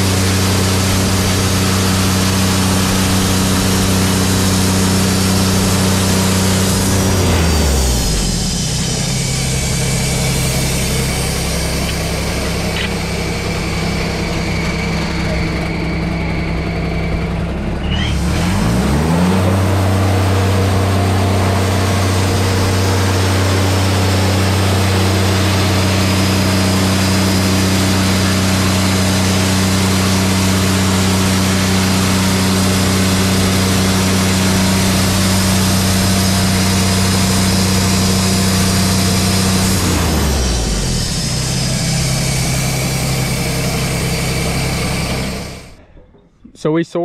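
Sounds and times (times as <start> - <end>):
sawmill engine revving: 0.0 - 46.0.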